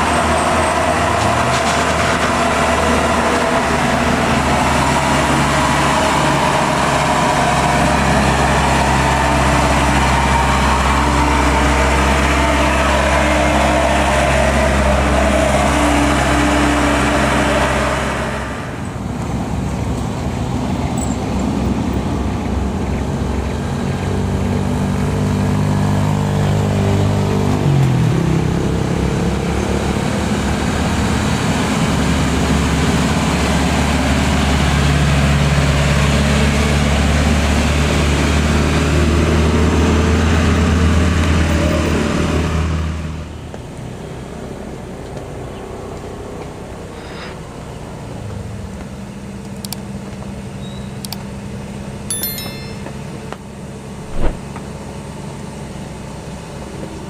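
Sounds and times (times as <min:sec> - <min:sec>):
diesel truck engines under load: 0:00.0 - 0:57.0.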